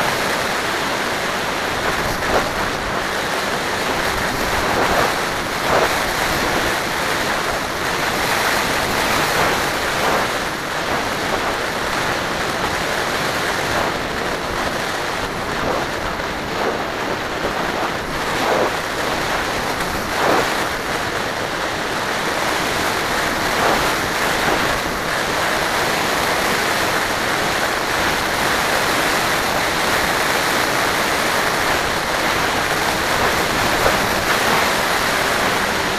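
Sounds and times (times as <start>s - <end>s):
drone propellers and air rushing: 0.0s - 35.9s.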